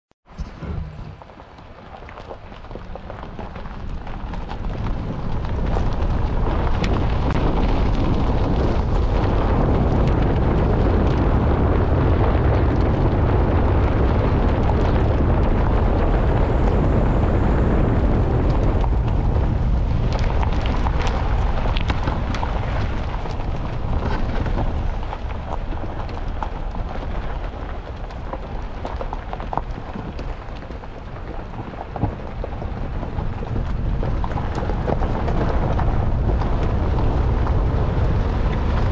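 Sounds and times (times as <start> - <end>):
vehicle tyres and engine rumbling: 0.2 - 38.9
wind buffeting microphone: 0.2 - 38.9
stones crackling under tyres: 0.4 - 38.9.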